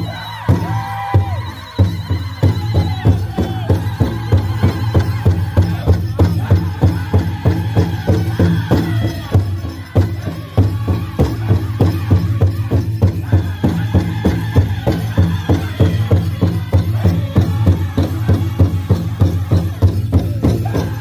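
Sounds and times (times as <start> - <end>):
group singing: 0.0 - 21.0
big drum beating: 0.5 - 21.0.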